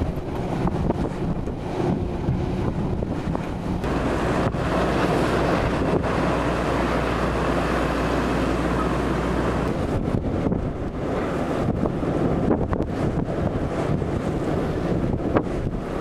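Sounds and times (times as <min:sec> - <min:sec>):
gale buffeting microphone: 0:00.0 - 0:16.0
waves breaking against quay: 0:00.0 - 0:16.0
wind-driven rain: 0:00.0 - 0:16.0.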